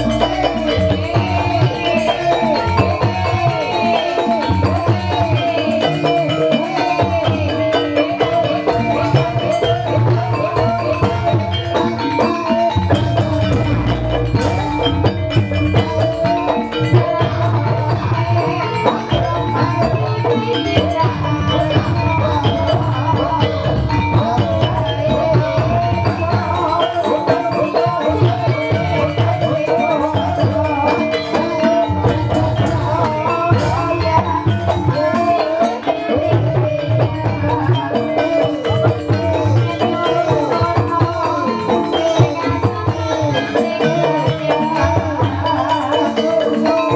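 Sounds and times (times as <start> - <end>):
drums: 0.0 - 46.9
tuned mallet percussion: 0.0 - 46.9.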